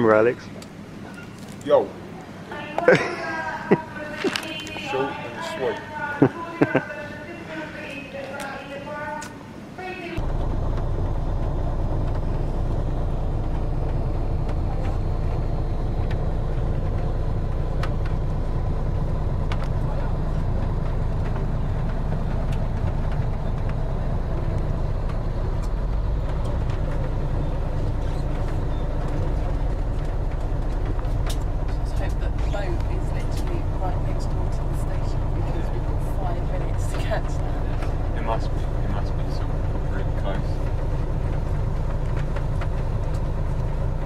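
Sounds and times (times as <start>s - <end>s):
bus engine rumble: 0.0s - 44.0s
road noise: 0.0s - 44.0s.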